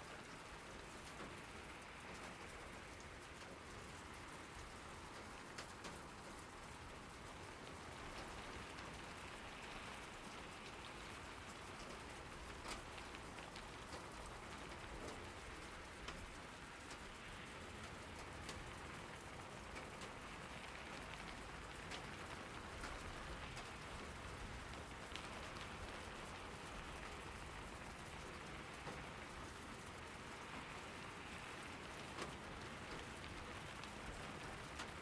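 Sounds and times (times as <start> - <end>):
steady rain pattering: 0.0 - 35.0.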